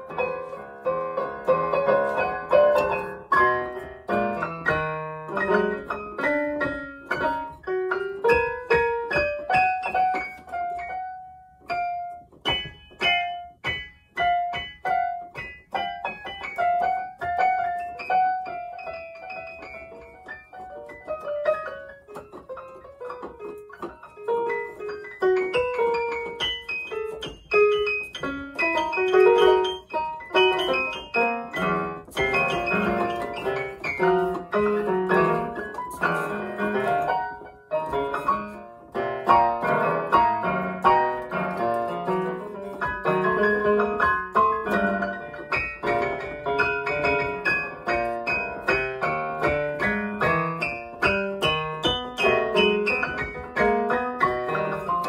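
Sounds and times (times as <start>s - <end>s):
digital piano playing: 0.0s - 55.0s.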